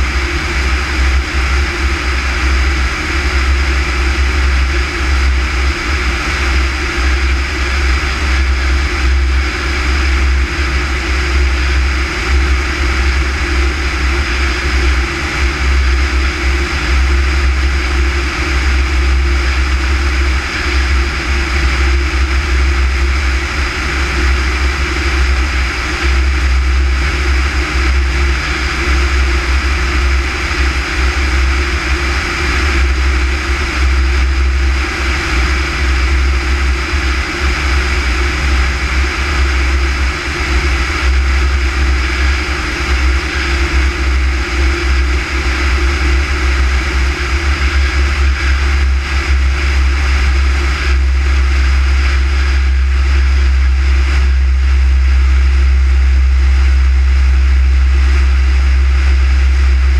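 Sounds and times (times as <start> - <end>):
airplane propeller engine drone: 0.0 - 59.9.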